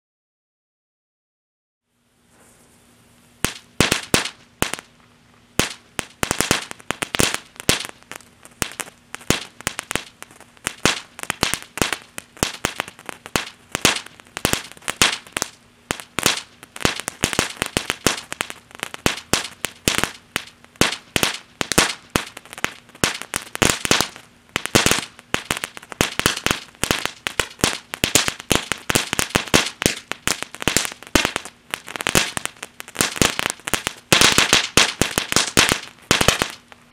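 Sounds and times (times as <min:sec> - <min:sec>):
firework fountain crackling pops: 0:02.4 - 0:36.9
hiss of sparks: 0:05.6 - 0:36.9.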